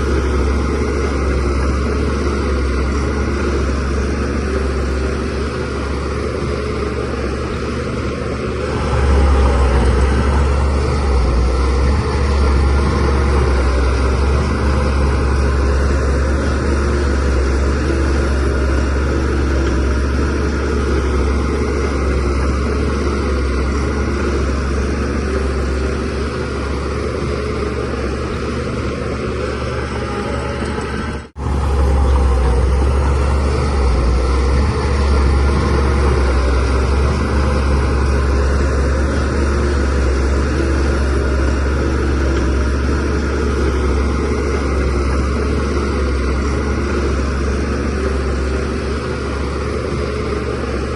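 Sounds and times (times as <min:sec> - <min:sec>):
bulldozer diesel engine: 0:00.0 - 0:50.9.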